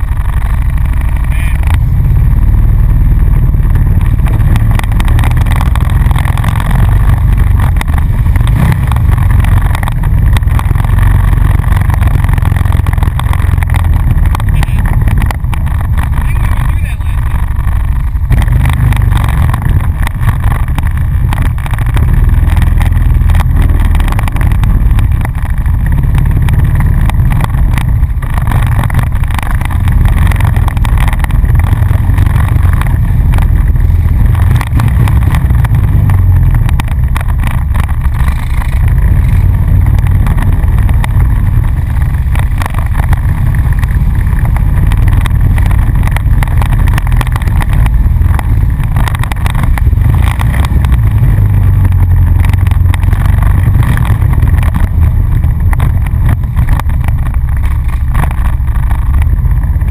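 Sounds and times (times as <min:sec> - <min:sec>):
atv engine rumbling: 0:00.0 - 0:59.9.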